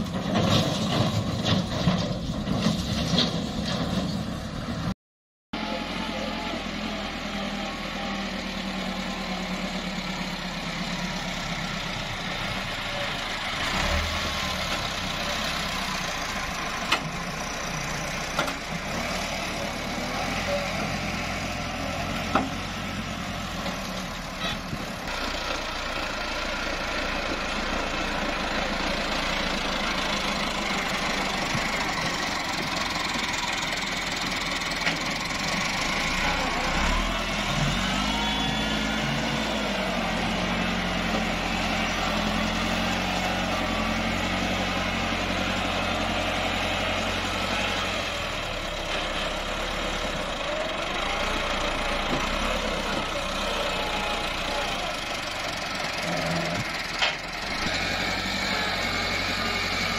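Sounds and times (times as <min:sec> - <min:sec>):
tractor diesel engine running: 0:05.6 - 0:59.9.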